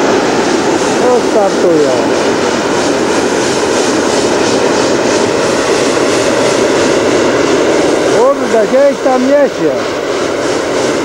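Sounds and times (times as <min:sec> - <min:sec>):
propane burner blast: 0:00.0 - 0:11.0.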